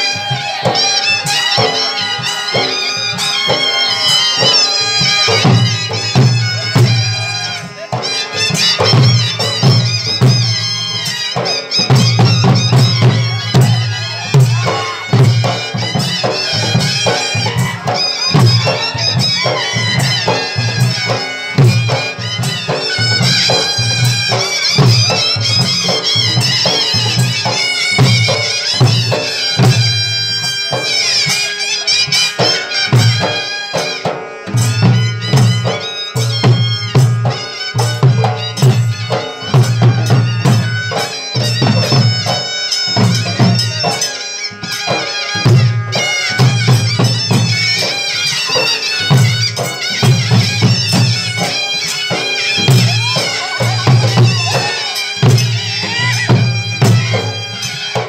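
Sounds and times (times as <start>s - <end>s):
large barrel drums beating: 0.0s - 44.0s, 45.4s - 58.0s
shrill reed wind instrument: 0.0s - 58.0s.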